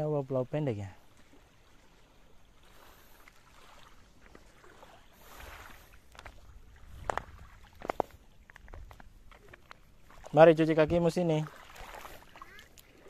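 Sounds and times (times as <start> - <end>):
small waves on sandy shore: 0.0 - 13.0.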